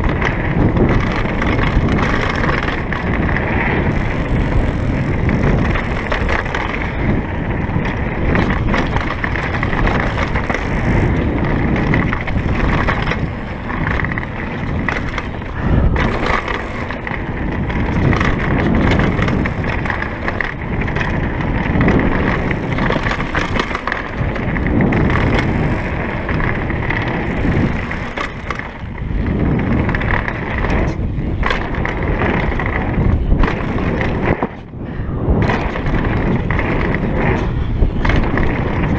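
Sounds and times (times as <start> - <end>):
bike knocks and rattles: 0.0 - 38.9
bike tyres rushing over dirt: 0.0 - 38.9.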